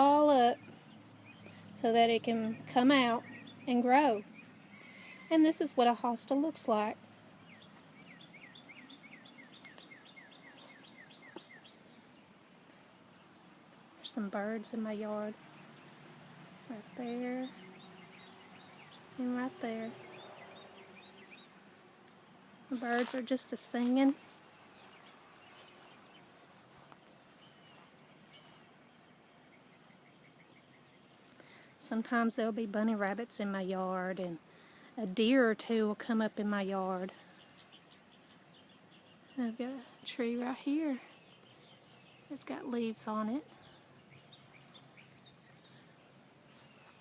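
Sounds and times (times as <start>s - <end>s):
faint birdsong: 0.0s - 47.0s
songbird chirping: 0.0s - 47.0s.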